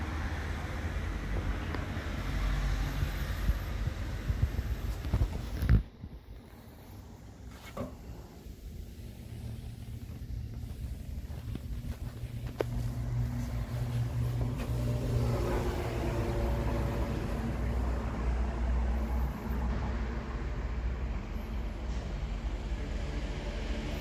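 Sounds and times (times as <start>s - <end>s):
low engine-like hum: 0.0s - 24.0s.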